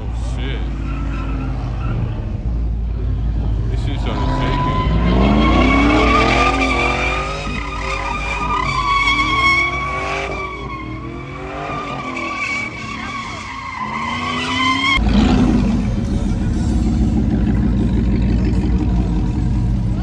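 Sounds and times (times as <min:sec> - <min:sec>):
tires squealing: 0:00.0 - 0:20.0
truck engine revving: 0:00.0 - 0:20.0.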